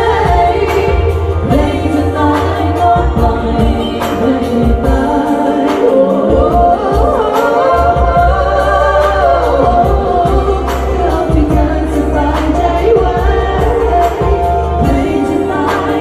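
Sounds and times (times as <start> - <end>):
backing music with bass line: 0.0 - 16.0
two women singing a pop duet: 0.0 - 16.0.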